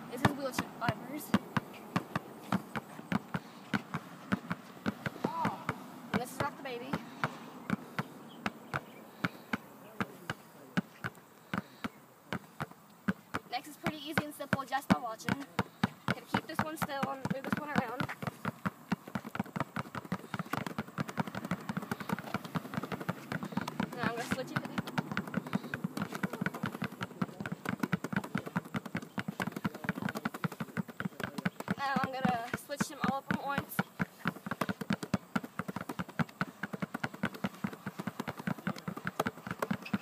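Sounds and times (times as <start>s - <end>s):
basketballs bouncing on concrete: 0.0s - 40.0s.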